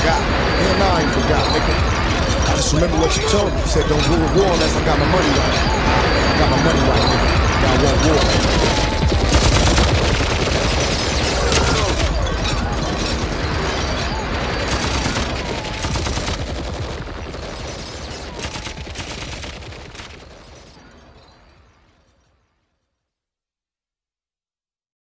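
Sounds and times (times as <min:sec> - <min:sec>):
rapid gunfire volleys: 0:00.0 - 0:21.2.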